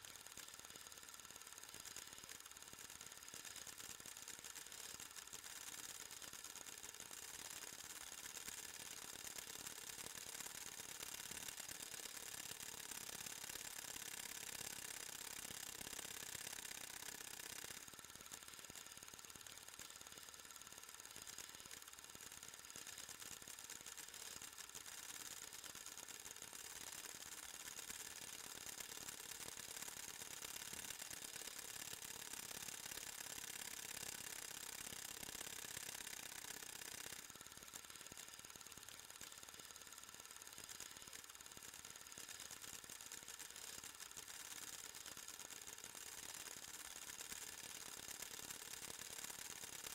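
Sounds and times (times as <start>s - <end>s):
film projector clattering: 0.0s - 49.9s.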